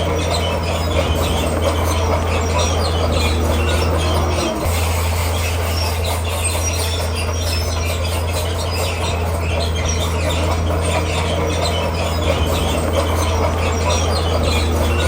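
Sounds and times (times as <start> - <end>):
bulldozer diesel engine: 0.0 - 15.0
tracks squeaking and scraping: 0.0 - 15.0.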